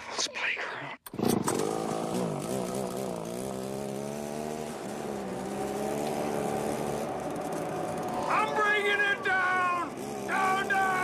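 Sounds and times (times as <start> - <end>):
chainsaw engine revving: 1.1 - 9.0, 9.6 - 11.0.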